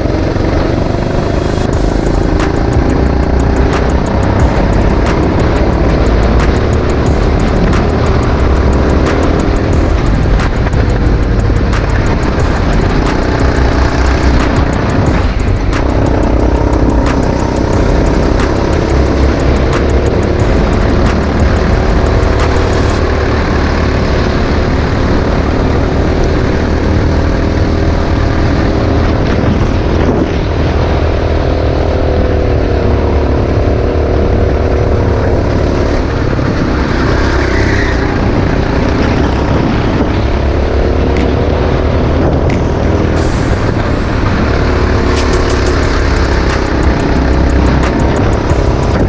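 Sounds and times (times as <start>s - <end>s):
go-kart engine running hard: 0.0s - 49.0s.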